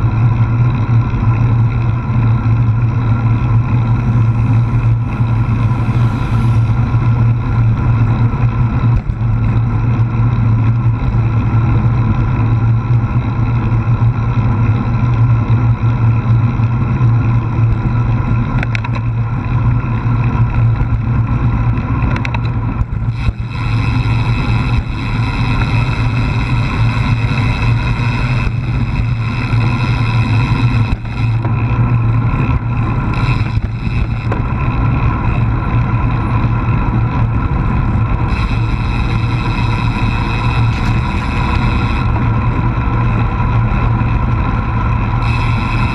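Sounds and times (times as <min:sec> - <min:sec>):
road rumble: 0:00.0 - 0:45.9.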